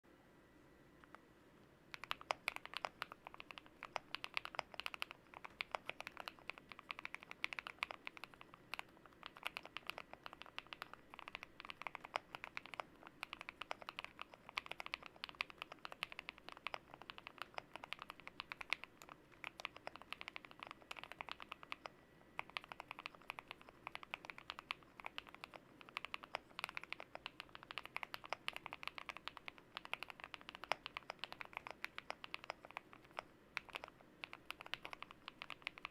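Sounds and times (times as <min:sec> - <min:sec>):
typing on mechanical keyboard: 0:01.9 - 0:35.9.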